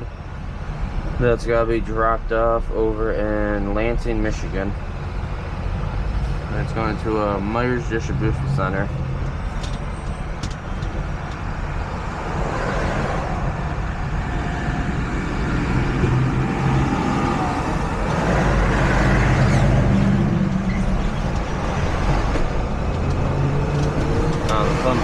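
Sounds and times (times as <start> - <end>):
diesel truck engine running: 0.0 - 25.0
tyre and road noise: 0.0 - 25.0.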